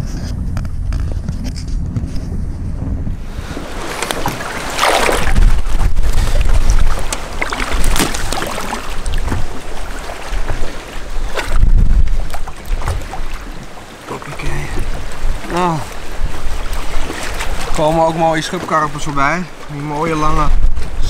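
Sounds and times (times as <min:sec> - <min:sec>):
wind buffeting microphone: 0:00.0 - 0:21.0
water splashing and sloshing: 0:00.2 - 0:21.0.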